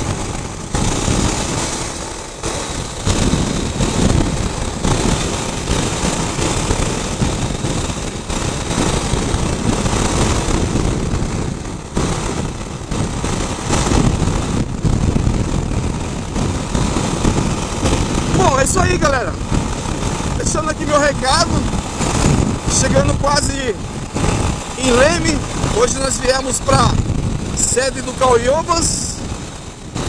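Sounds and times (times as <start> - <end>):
motorcycle engine running: 0.0 - 30.0
wind buffeting microphone: 0.0 - 30.0.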